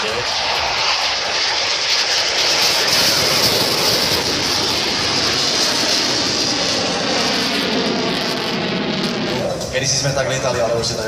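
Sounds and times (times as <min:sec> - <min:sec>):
jet engines roaring on takeoff: 0:00.0 - 0:11.0.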